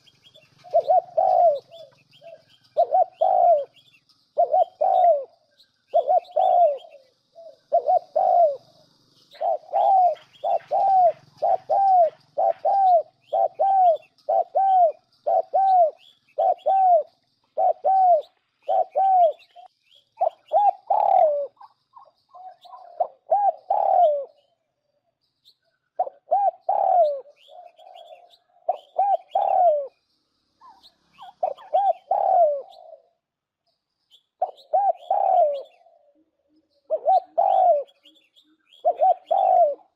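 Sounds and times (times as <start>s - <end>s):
dove cooing: 0.0s - 24.5s, 25.9s - 30.0s, 30.6s - 33.2s, 34.4s - 39.9s
faint high bird chirps: 0.0s - 39.9s.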